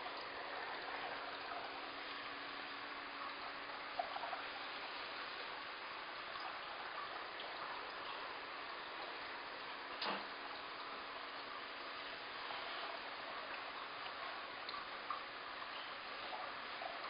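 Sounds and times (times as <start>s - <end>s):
aquarium water trickling: 0.0s - 17.0s
low steady hum: 0.0s - 17.0s.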